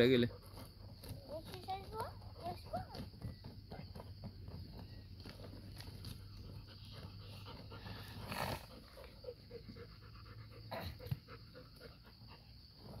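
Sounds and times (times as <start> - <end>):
dog panting: 0.0 - 3.3, 5.7 - 13.0.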